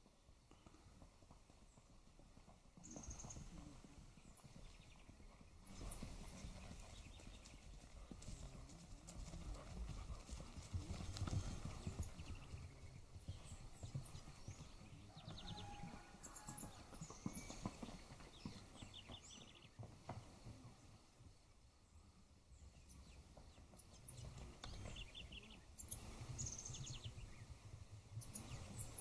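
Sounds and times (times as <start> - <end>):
horse hooves clip-clopping: 0.0 - 29.0
birds chirping: 0.5 - 29.0.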